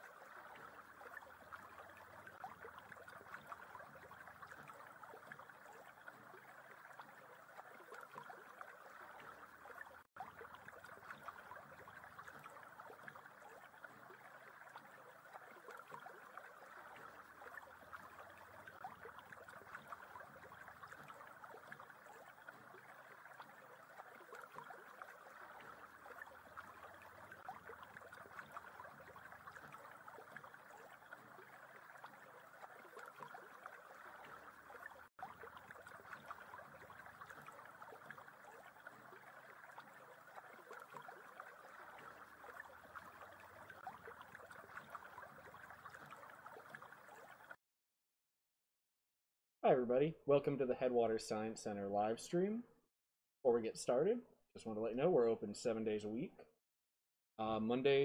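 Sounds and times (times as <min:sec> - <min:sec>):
stream running over rocks: 0:00.0 - 0:47.6.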